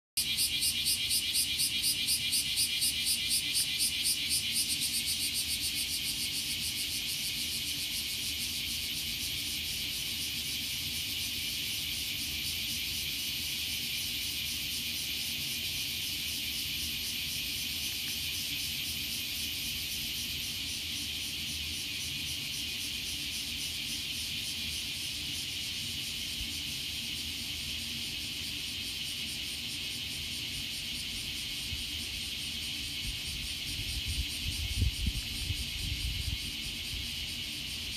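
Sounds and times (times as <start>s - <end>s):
cicadas buzzing: 0.2s - 37.9s.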